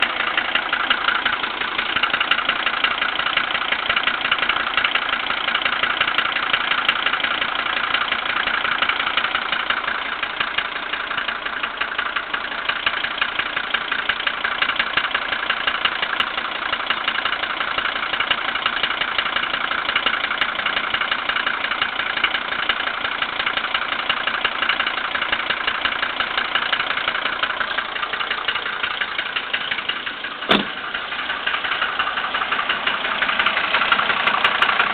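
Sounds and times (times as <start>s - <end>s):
diesel engine idling with clatter: 0.0s - 34.9s.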